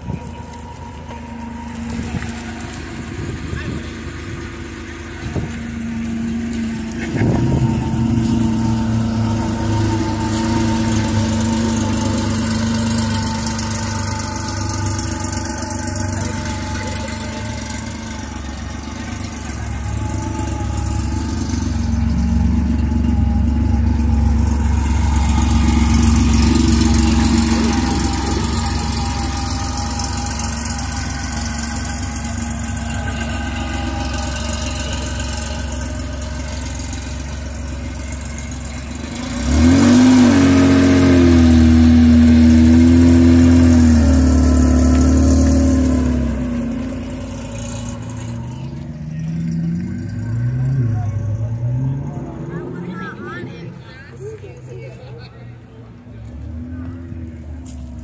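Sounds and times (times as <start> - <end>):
car engine idling: 0.0 - 58.0
car engine revving as car pulls away: 0.0 - 58.0.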